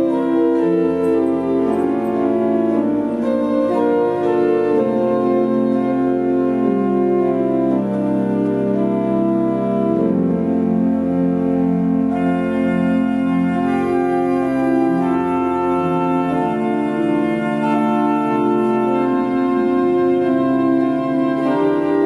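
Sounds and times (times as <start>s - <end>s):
pipe organ playing chords: 0.0s - 22.0s.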